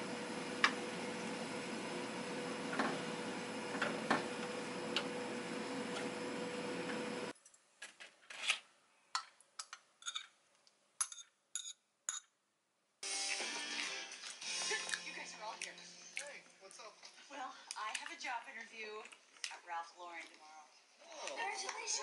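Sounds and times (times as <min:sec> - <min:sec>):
kitchen hum: 0:00.0 - 0:22.0.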